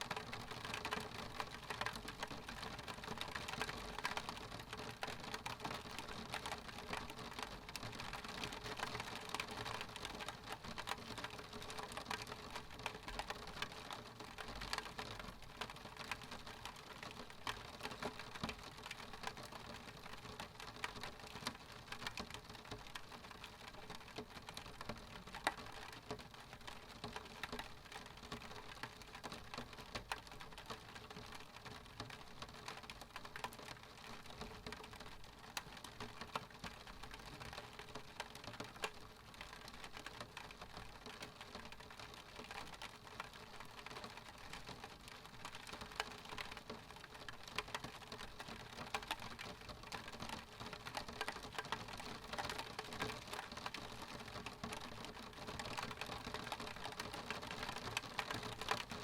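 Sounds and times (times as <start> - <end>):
rain drops ticking on glass: 0.0 - 59.0
steady hiss of rain: 0.0 - 59.0.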